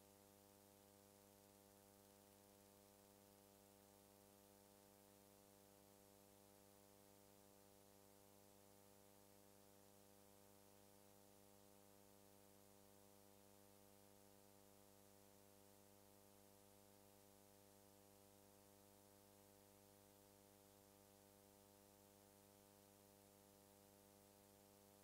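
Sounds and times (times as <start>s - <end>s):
faint electrical hum with hiss: 0.0s - 25.0s.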